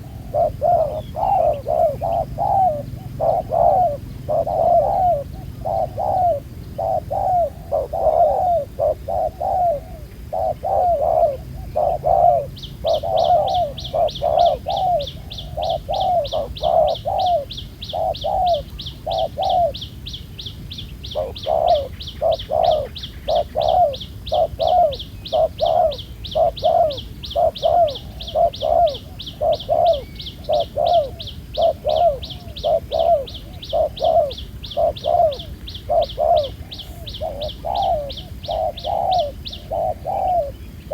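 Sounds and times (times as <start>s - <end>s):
dove cooing: 0.0s - 19.9s, 21.0s - 40.9s.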